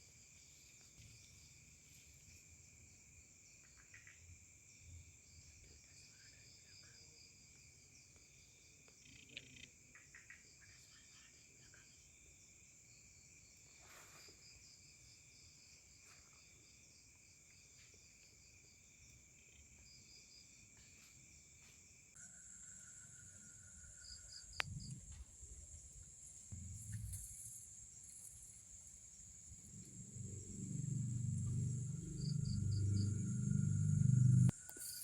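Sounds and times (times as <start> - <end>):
forest insects trilling: 0.0 - 35.0.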